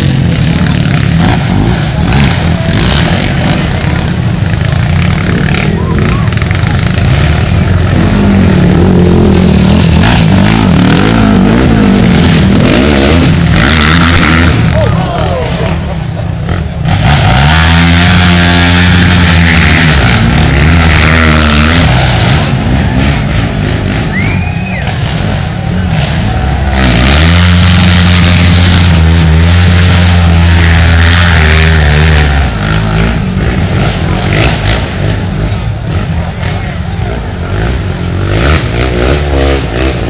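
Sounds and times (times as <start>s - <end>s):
distant quad engines: 0.0s - 40.0s
quad engines passing at high revs: 0.0s - 40.0s.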